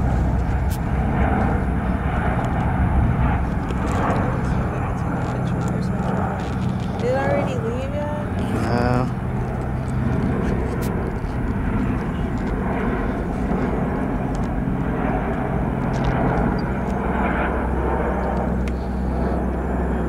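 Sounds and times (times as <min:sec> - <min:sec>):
aircraft engine roar: 0:00.0 - 0:20.0
low hum: 0:00.0 - 0:20.0.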